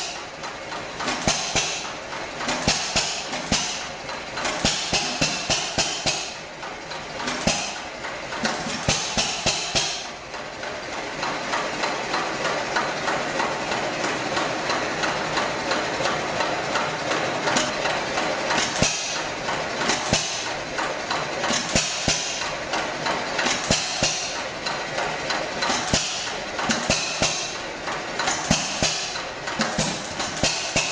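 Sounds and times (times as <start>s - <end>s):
stationary engine clatter: 0.0s - 30.9s.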